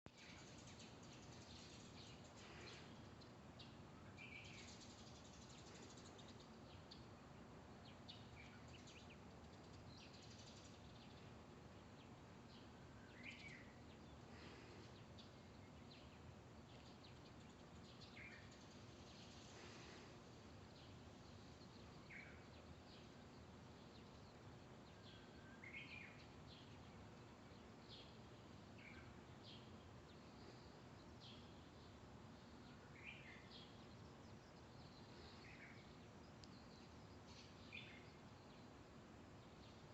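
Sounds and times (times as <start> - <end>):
birds chirping: 0.1 - 39.9
steady low hiss: 0.1 - 39.9.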